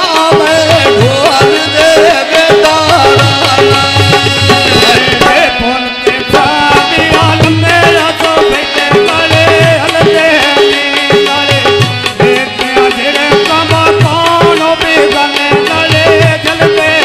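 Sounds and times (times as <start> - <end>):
hand drum beat: 0.0 - 17.0
harmonium playing chords: 0.0 - 17.0
man singing: 0.0 - 17.0.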